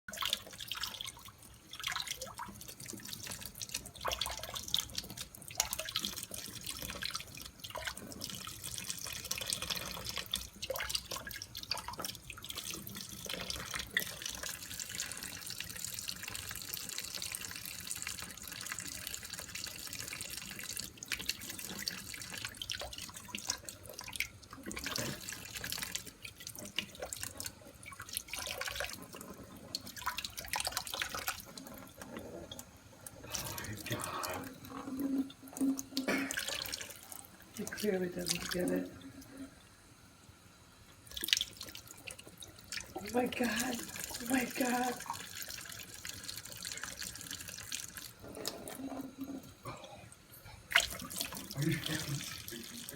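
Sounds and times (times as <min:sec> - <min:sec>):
cat splashing water: 0:00.1 - 0:39.4, 0:41.0 - 0:49.8, 0:50.7 - 0:52.9
faucet running into sink: 0:00.1 - 0:39.6, 0:40.9 - 0:49.6, 0:50.7 - 0:52.9.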